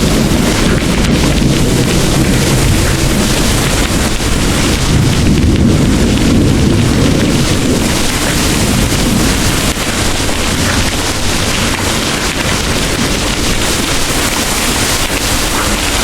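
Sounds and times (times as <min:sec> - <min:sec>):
distant rolling thunder: 0:00.0 - 0:16.0
heavy rain pouring: 0:00.0 - 0:16.0.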